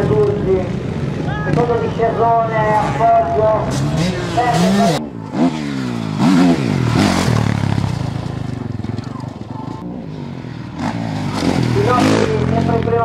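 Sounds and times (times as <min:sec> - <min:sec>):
motocross bike engine: 0:00.0 - 0:13.0.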